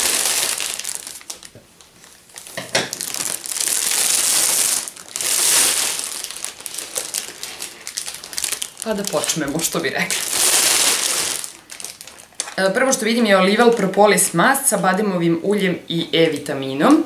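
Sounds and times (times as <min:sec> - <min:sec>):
cellophane crinkling: 0:00.0 - 0:14.0.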